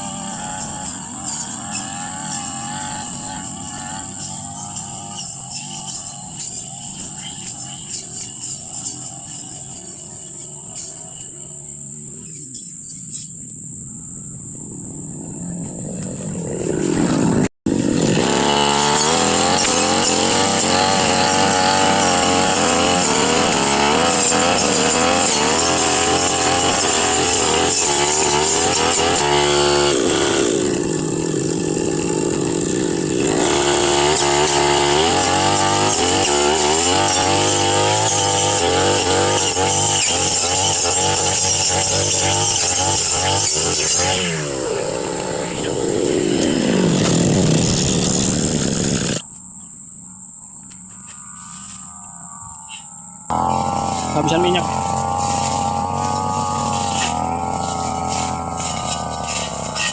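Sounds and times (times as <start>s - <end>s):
brush cutter engine running: 0.0s - 12.0s, 15.4s - 49.3s, 53.3s - 59.9s.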